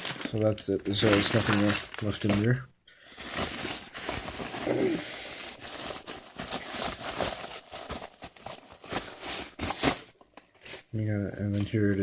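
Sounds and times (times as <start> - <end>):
plastic and paper rustling: 0.0 - 12.0.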